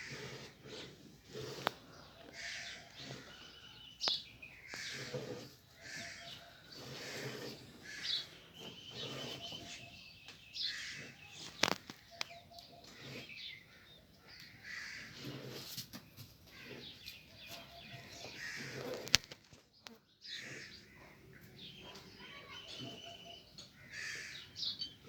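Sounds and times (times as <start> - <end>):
birds calling and chirping: 0.0 - 25.0.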